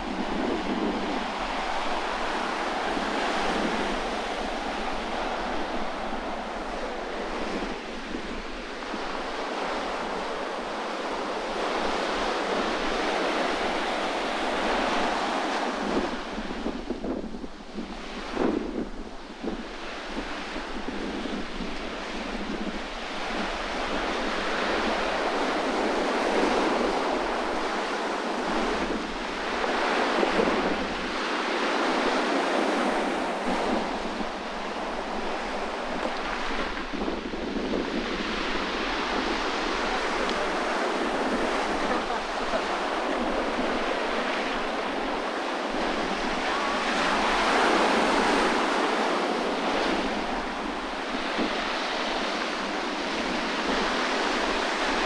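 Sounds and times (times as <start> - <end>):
sea waves breaking on shore: 0.0 - 55.0
wind gusting over microphone: 0.0 - 55.0.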